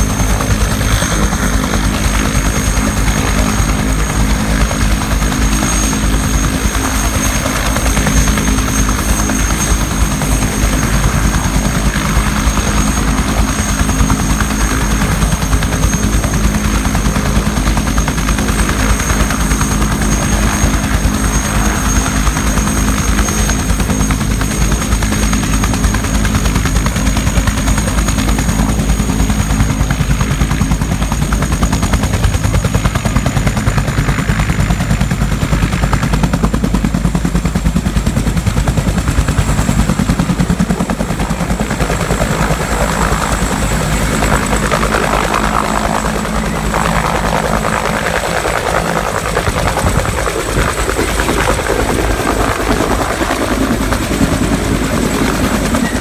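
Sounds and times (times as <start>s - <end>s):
high turbine whine: 0.0s - 36.7s, 37.6s - 56.0s
helicopter rotor beating: 0.0s - 56.0s.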